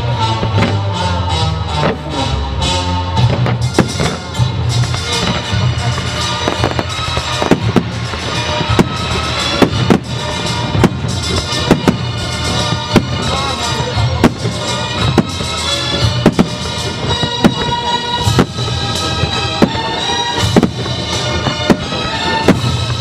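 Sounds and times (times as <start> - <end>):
fireworks bangs: 0.0 - 2.2, 3.2 - 23.0
music playing: 0.0 - 23.0.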